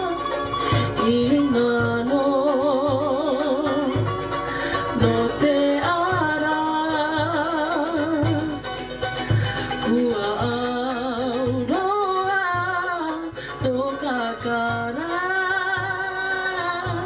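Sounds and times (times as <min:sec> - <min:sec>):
woman singing with vibrato: 0:00.0 - 0:08.7, 0:09.8 - 0:17.0
strummed ukuleles: 0:00.0 - 0:17.0.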